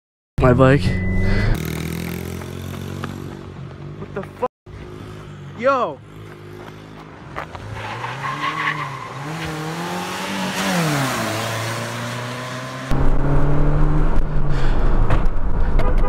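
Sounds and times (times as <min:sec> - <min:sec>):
vehicle engine accelerating: 0:01.2 - 0:15.8.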